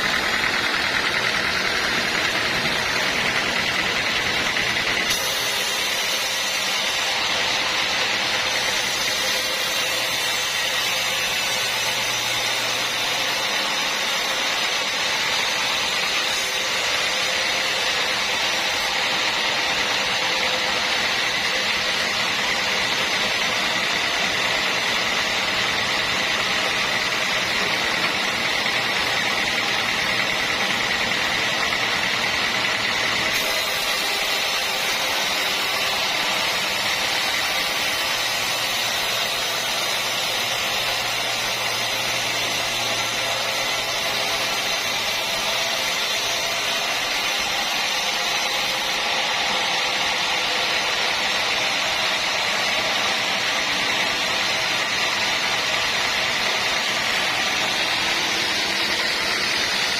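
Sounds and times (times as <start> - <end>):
sawmill machinery whining: 0.0 - 59.9.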